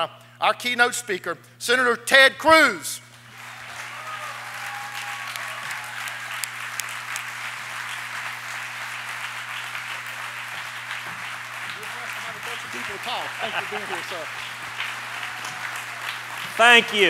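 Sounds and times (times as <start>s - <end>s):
audience applauding: 3.2s - 17.0s.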